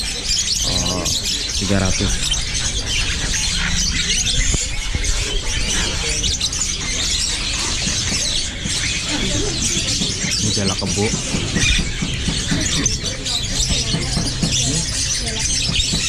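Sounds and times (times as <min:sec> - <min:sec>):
caged birds chirping and squawking: 0:00.0 - 0:16.0.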